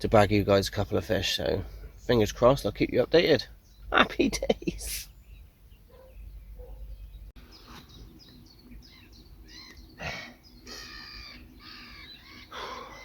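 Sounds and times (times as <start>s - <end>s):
birds chirping and singing: 0.0s - 13.0s.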